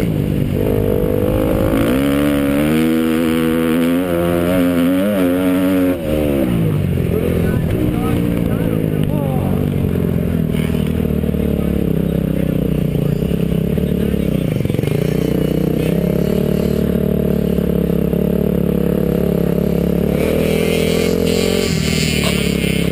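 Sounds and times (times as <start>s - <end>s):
motorbike engine running: 0.0s - 22.9s.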